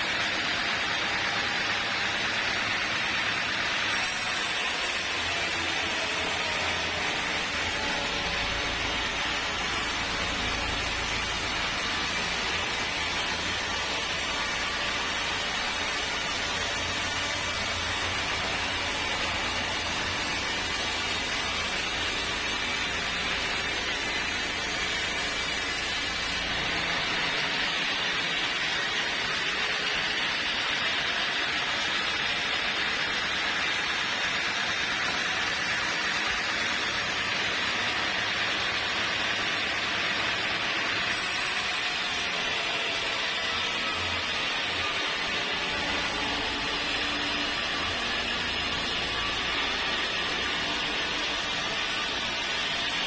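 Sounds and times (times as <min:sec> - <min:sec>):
sawmill saw cutting log: 0:00.0 - 0:53.0.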